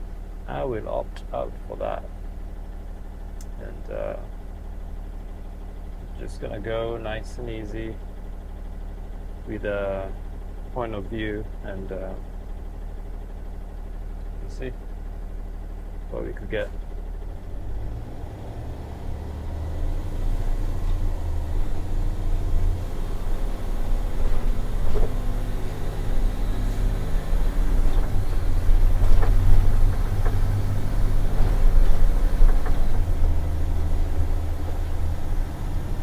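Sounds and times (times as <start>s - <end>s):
truck engine rumble: 0.0s - 36.0s.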